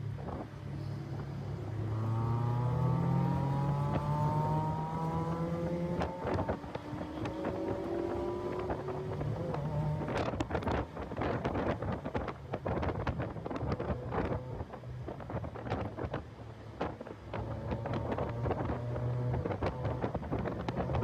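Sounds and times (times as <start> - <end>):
wind buffeting microphone: 0.0 - 21.0
car engine accelerating: 0.8 - 16.1, 16.8 - 21.0.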